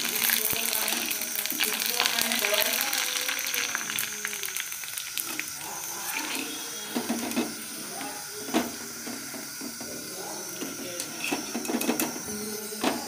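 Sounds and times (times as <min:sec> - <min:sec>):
deep-frying oil sizzling: 0:00.0 - 0:13.0.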